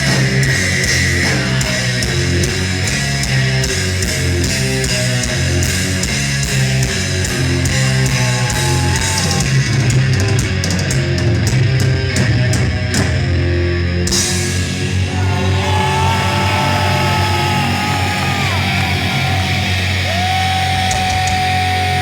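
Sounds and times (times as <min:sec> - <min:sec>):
heavy metal band playing: 0:00.0 - 0:22.0.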